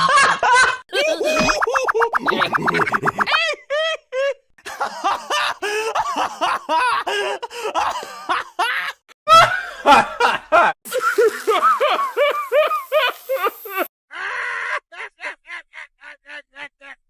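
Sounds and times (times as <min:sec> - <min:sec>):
cartoon character laughs: 0:00.0 - 0:17.0.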